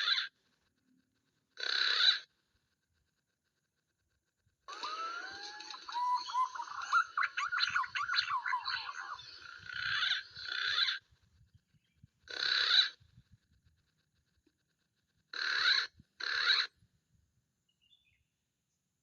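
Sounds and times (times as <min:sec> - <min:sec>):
small birds chirping: 0:00.0 - 0:16.9, 0:17.6 - 0:18.9.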